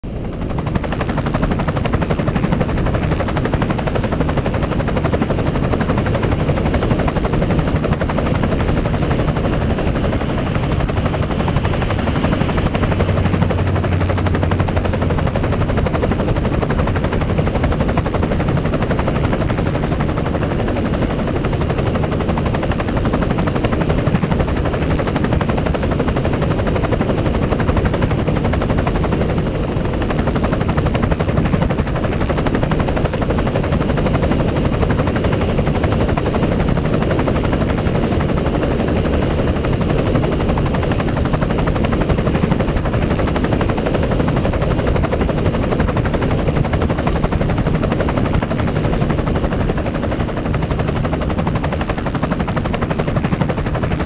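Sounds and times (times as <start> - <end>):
helicopter rotor chopping drone: 0.0 - 54.0.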